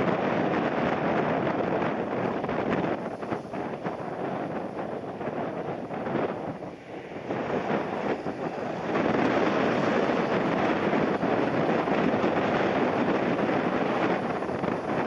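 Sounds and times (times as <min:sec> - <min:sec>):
airliner engine noise: 0:00.0 - 0:15.0
wind buffeting microphone: 0:00.0 - 0:15.0.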